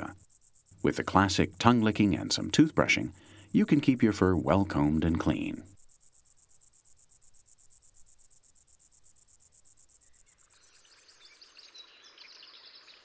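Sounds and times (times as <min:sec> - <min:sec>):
cricket-like insect chirping: 0:00.0 - 0:13.0
outdoor background: 0:00.0 - 0:13.0.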